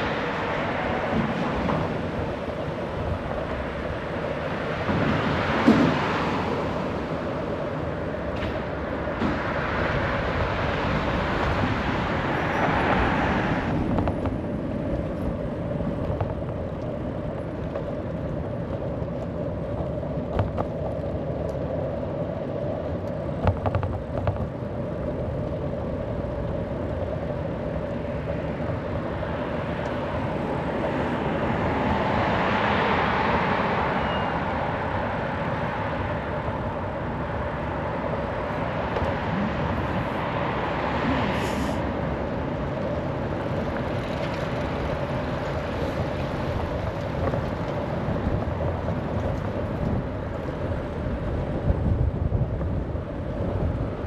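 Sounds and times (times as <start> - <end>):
bicycle tyres rumbling: 0.0 - 54.0
passing traffic: 0.0 - 54.0
wind: 0.0 - 54.0.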